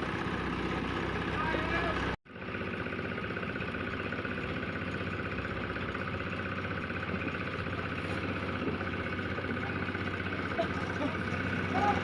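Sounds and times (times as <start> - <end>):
cement mixer engine running: 0.0 - 12.0.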